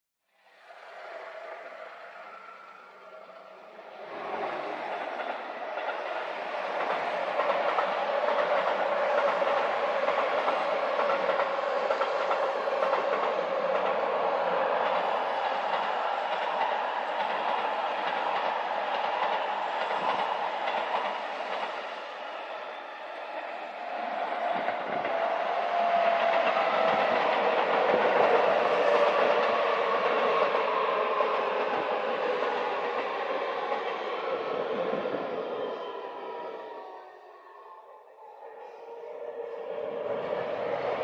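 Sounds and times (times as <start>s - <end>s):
train crossing steel bridge: 0.4s - 41.0s.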